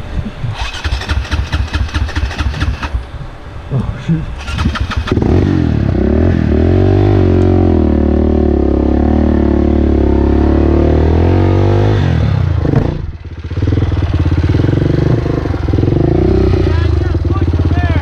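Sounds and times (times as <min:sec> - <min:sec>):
dirt bike engine: 0:00.6 - 0:03.6, 0:04.4 - 0:18.0.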